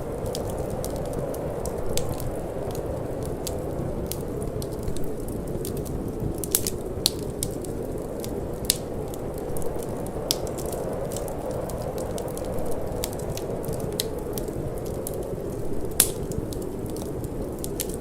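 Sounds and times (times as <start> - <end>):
low rush of flame: 0.0 - 18.0
wood fire crackling and popping: 0.0 - 18.0.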